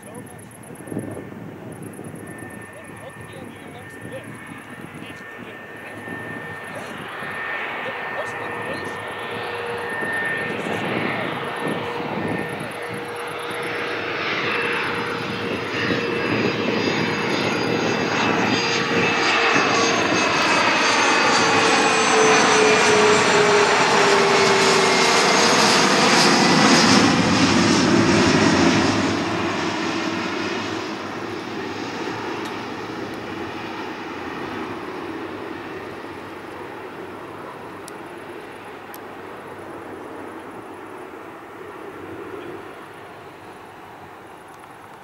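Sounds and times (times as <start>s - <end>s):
jet airliner passing overhead: 0.0s - 45.0s.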